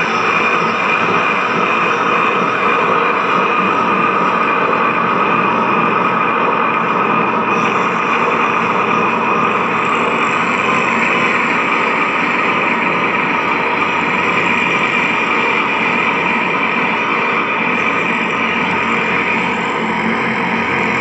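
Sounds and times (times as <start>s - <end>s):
distorted guitar noise: 0.0s - 21.0s.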